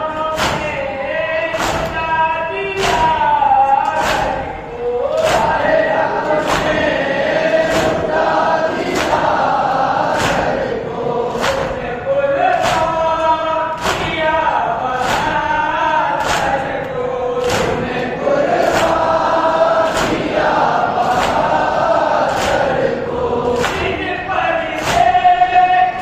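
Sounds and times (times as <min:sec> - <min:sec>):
men chanting together: 0:00.0 - 0:26.0
hands slapping chests: 0:00.3 - 0:00.8, 0:01.5 - 0:02.1, 0:02.7 - 0:11.9, 0:12.5 - 0:26.0.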